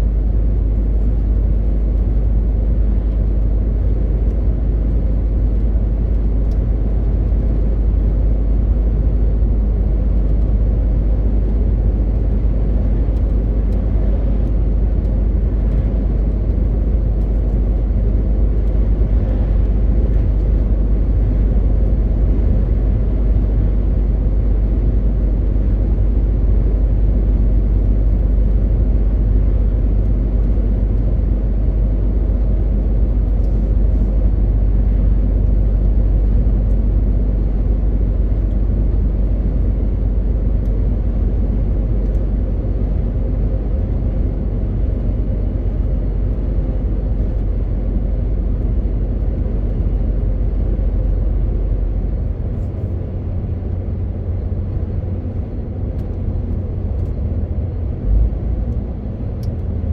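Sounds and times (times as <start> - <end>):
diesel truck engine droning: 0.0 - 59.9
road noise: 0.0 - 59.9.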